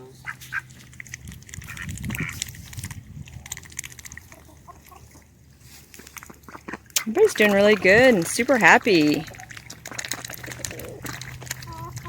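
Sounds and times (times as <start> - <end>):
ducks rustling and clicking: 0.0 - 12.0.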